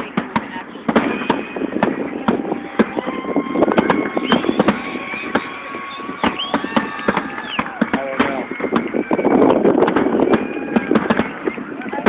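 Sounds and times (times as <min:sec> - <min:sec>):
crowd hubbub: 0:00.0 - 0:12.0
fireworks popping and crackling: 0:00.0 - 0:12.0
fireworks whistling: 0:00.0 - 0:12.0.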